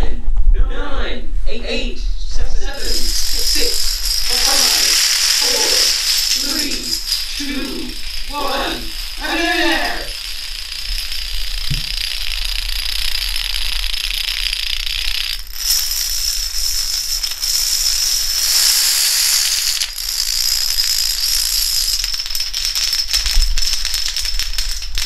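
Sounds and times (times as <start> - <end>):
dominoes toppling: 2.8 - 25.0.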